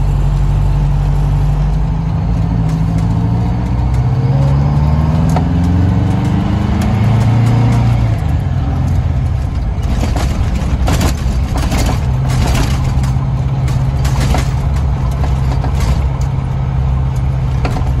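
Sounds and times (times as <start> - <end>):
sharp clicks and rattles: 0.0 - 18.0
truck diesel engine running: 0.0 - 18.0.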